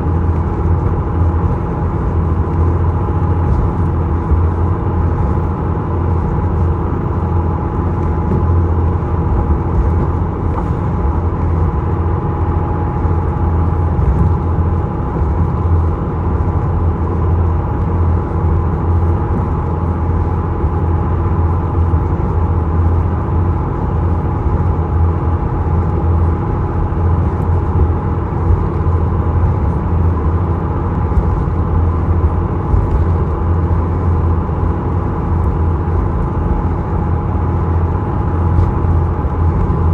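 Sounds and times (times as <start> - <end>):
ferry engines droning: 0.0 - 39.9.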